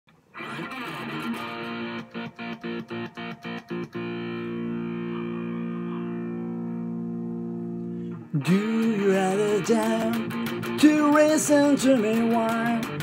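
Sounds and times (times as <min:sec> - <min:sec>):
distorted electric guitar chords: 0:00.3 - 0:13.0.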